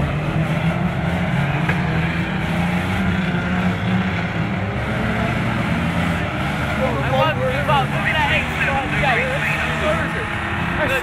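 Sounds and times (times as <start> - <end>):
racing car engine running: 0.0 - 11.0.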